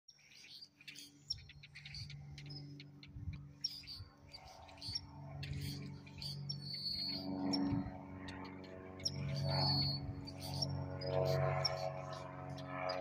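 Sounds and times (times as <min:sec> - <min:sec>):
distant airplane engine hum: 0:00.1 - 0:13.0
small birds chirping: 0:00.1 - 0:13.0.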